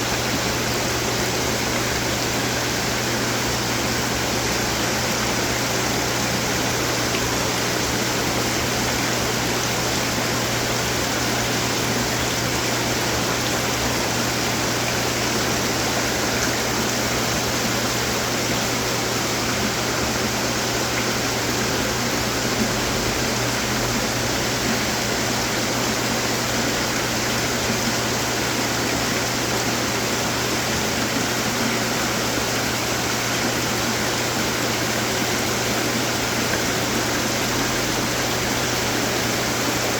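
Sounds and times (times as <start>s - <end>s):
splashing water from fountains: 0.0s - 39.9s.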